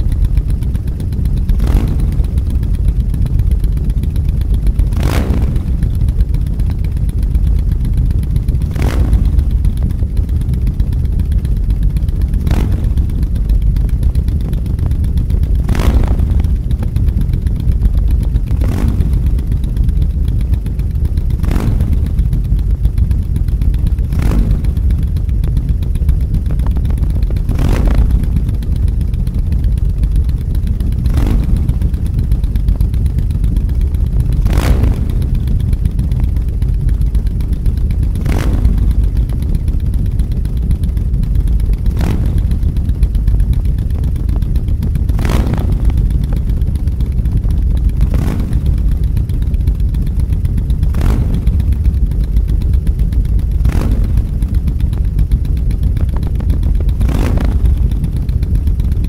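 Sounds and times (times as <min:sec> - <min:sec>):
motorcycle engine rumble: 0:00.0 - 0:59.0.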